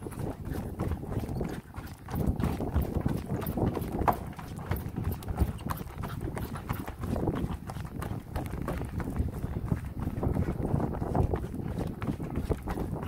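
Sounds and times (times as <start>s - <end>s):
footsteps on wooden boards: 0.0s - 13.0s.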